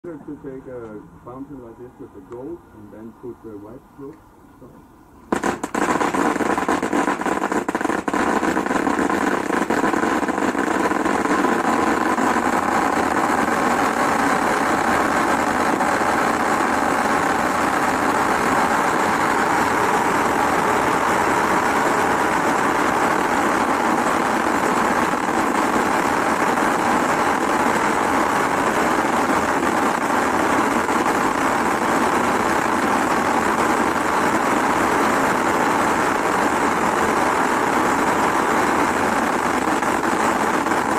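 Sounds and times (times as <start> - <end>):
fast dense crackling: 5.3 - 40.9
firework fountain spark jet: 5.3 - 40.9.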